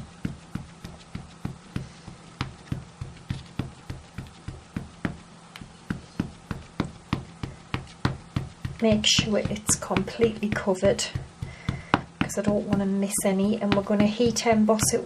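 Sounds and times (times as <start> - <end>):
stamp tapping on ink pad: 0.2 - 15.0.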